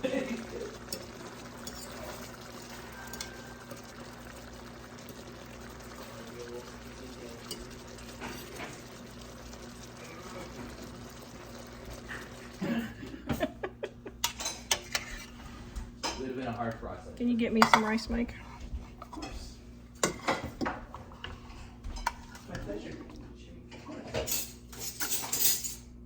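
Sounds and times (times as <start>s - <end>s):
dishes and utensils clattering: 0.0s - 16.3s, 17.5s - 25.9s.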